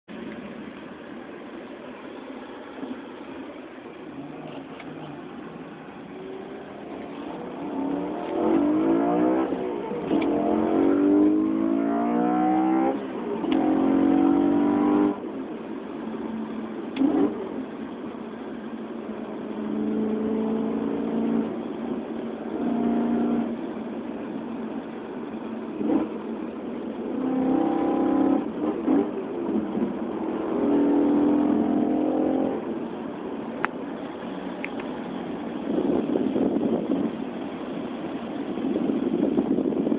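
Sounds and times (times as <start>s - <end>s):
car engine accelerating: 0.1s - 39.9s.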